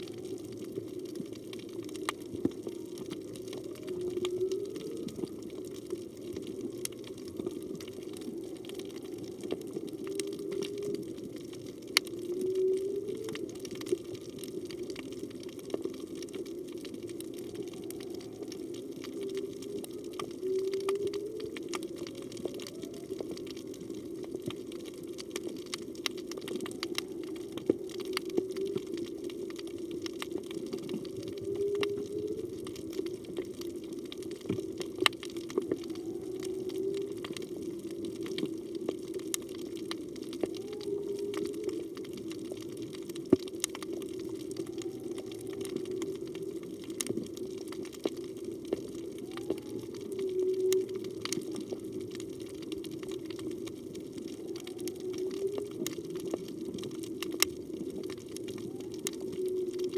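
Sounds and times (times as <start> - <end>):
crackling clicks: 0.0 - 59.9
whale moans underwater: 0.0 - 59.9.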